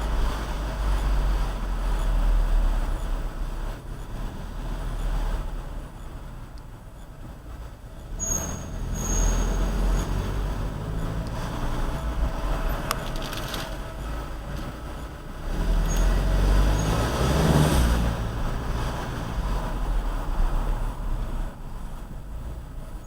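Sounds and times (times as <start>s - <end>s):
brakes squeaking: 0.0s - 23.0s
car rumbling at low speed: 0.0s - 23.0s.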